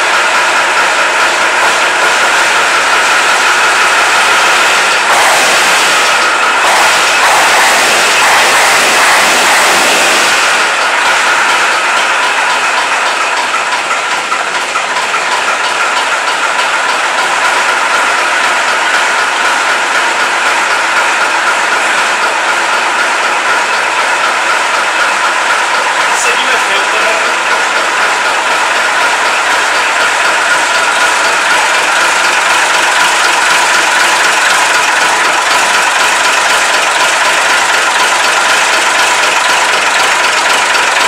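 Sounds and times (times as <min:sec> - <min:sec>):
diesel truck engine running: 0:00.0 - 0:41.0.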